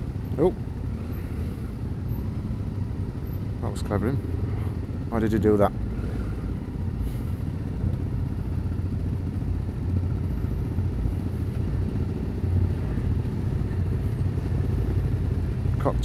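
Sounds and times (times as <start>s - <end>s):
motorcycle engines idling: 0.0s - 16.0s.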